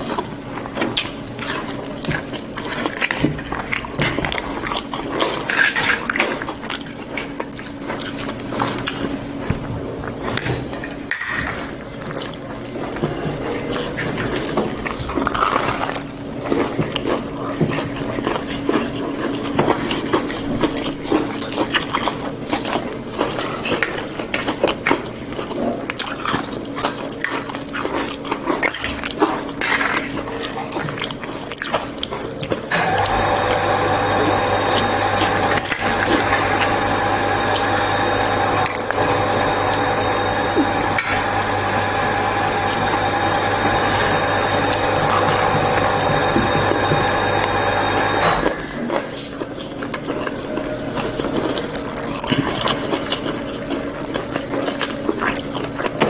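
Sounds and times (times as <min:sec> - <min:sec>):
steady low hum: 0:00.0 - 0:56.0
wet chewing and crunching: 0:00.0 - 0:56.0.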